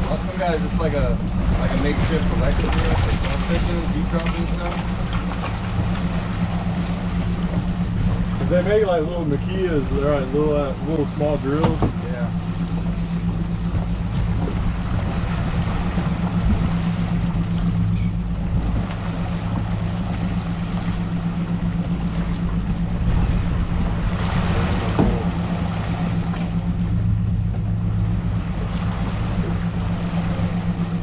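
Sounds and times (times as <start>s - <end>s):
outboard motor humming: 0.0s - 31.0s
wake water rushing: 0.0s - 31.0s
wind: 0.0s - 31.0s.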